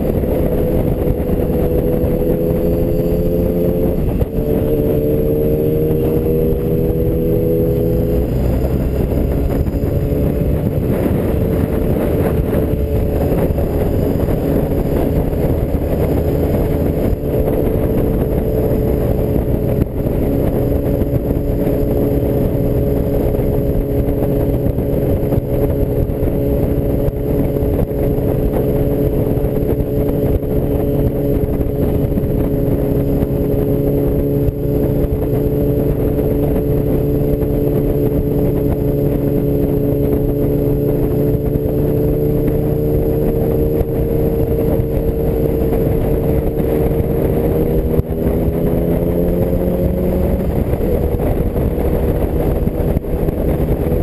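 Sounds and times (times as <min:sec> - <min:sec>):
motorcycle engine cruising: 0:00.0 - 0:54.0
wind rush and road noise: 0:00.0 - 0:54.0.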